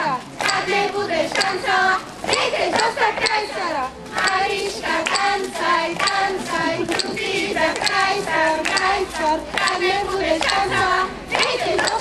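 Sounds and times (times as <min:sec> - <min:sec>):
children singing: 0:00.4 - 0:12.0
rhythmic hand-clapping: 0:00.4 - 0:12.0.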